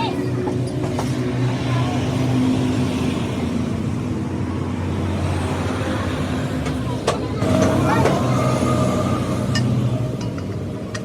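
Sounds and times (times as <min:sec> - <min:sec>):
engine running with low drone: 0:00.0 - 0:11.0.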